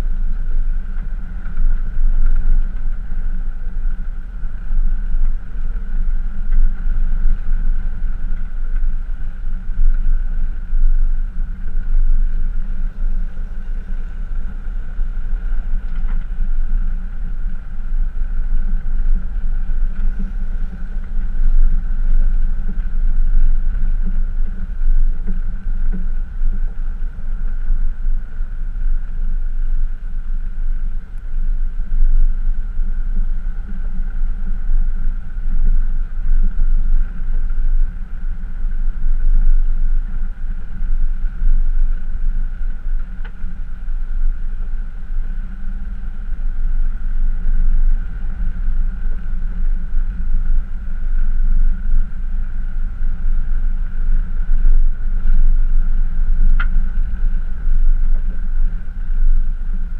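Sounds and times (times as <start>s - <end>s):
constant high hum: 0.0s - 59.9s.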